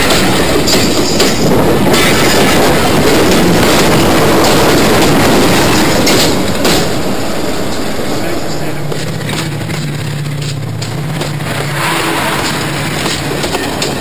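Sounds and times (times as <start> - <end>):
wheels clicking over rail joints: 0.0 - 7.1, 8.6 - 14.0
train wheels on rail: 0.0 - 14.0.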